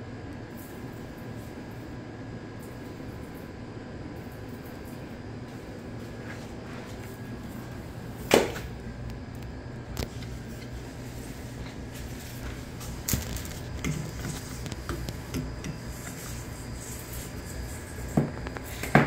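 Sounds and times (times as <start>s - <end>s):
kitchen equipment hum: 0.0s - 19.0s.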